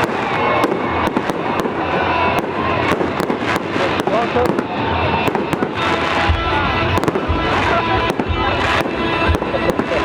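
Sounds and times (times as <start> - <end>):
deep firework booms: 0.0 - 10.0
firework bangs and crackles: 0.0 - 10.0
music playing: 0.0 - 10.0.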